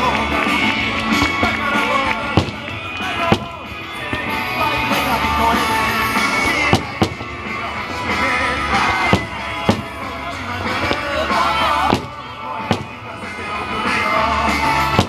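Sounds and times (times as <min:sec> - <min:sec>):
rock music: 0:00.0 - 0:15.0
firework bangs: 0:01.0 - 0:15.0.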